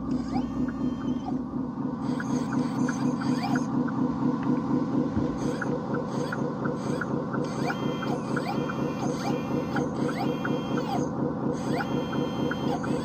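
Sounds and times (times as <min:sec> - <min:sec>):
hydraulic pump running: 0:00.0 - 0:13.0.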